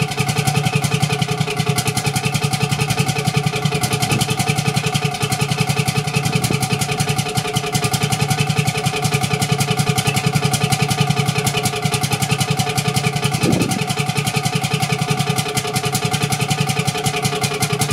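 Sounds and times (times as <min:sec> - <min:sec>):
diesel engine exhaust beat: 0:00.0 - 0:17.9.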